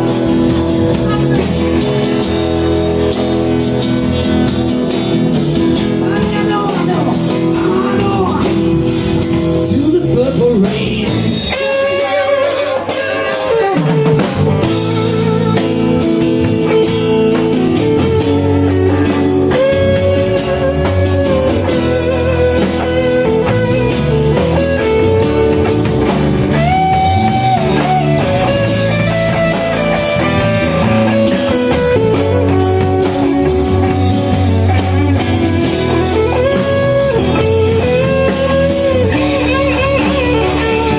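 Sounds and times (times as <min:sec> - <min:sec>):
drum kit: 0:00.0 - 0:40.9
electric guitar melody: 0:00.0 - 0:40.9
live blues-rock band: 0:00.0 - 0:40.9.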